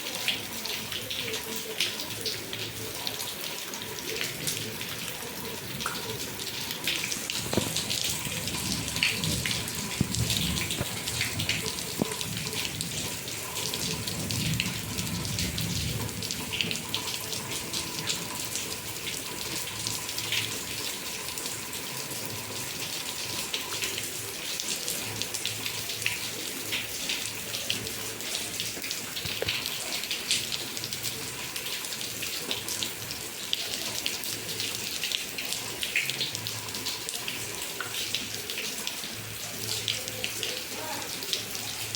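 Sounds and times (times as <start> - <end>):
close drips and splats: 0.0 - 41.9
heavy rain splashing: 0.0 - 41.9.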